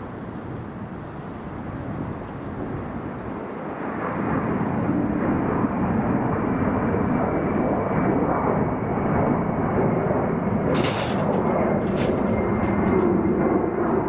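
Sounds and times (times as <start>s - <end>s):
jet engine noise: 0.0s - 14.0s.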